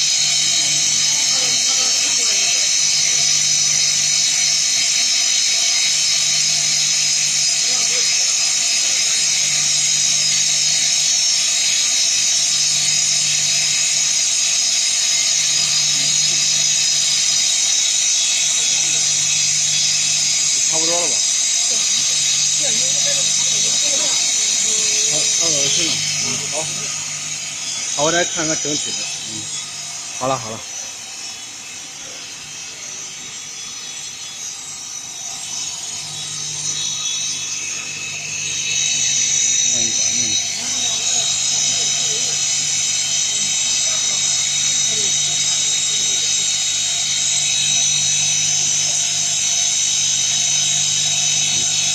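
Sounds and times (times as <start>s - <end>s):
low machine hum: 0.0s - 51.9s
wood lathe cutting wood: 0.0s - 51.9s.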